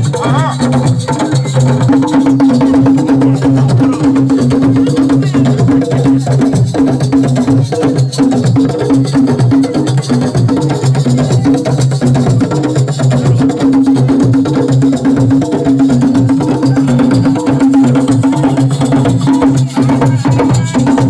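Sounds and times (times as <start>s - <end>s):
fast percussion groove: 0.0s - 21.0s.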